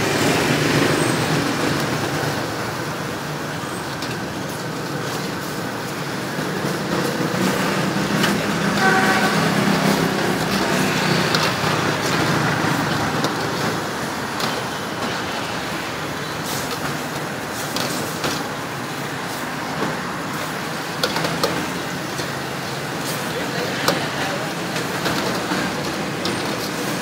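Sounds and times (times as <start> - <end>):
gas burner rushing: 0.0 - 27.0.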